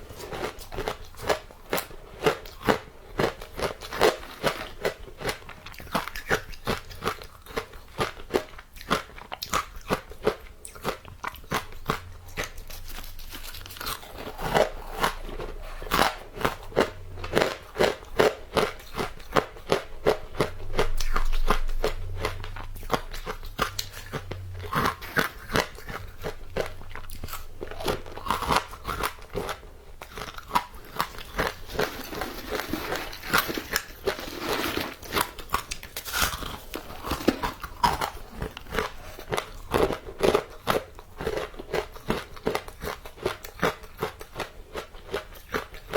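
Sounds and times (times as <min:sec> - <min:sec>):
crunching frozen ice: 0:00.0 - 0:19.8, 0:22.2 - 0:45.9.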